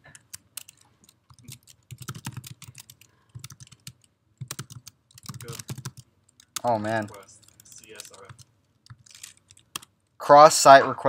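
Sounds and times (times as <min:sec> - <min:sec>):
typing on computer keyboard: 0:00.1 - 0:10.1.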